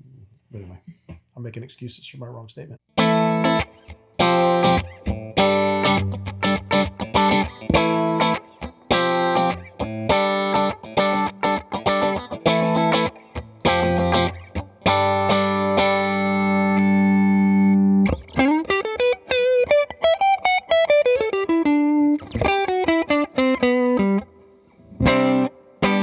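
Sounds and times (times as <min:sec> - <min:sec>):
electric guitar chords and run: 0:03.0 - 0:26.0.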